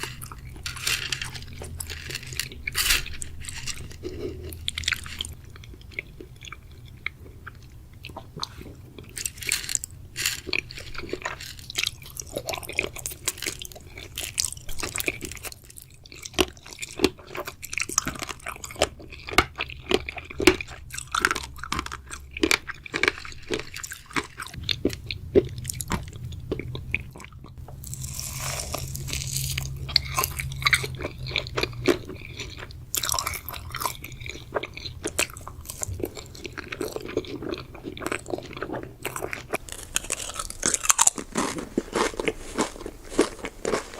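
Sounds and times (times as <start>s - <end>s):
crunching and chewing snack: 0.0s - 43.9s.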